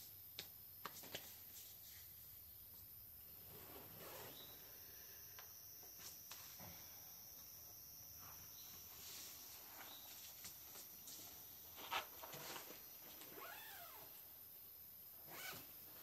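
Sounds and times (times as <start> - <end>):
insect hum: 0.0 - 16.0.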